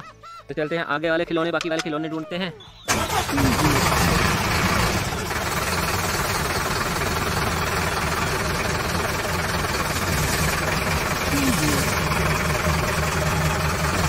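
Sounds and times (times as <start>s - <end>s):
truck engine idling: 2.7s - 14.0s.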